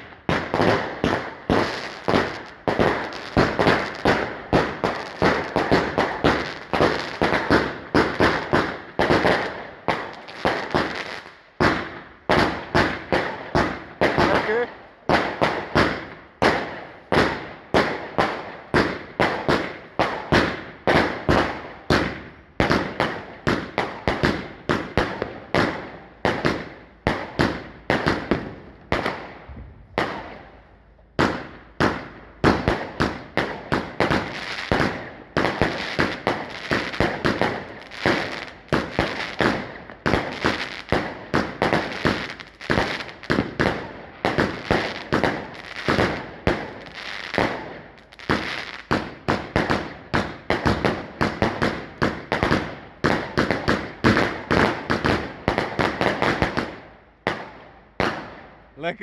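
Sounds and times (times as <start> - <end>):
firework bangs: 0.0 - 59.0.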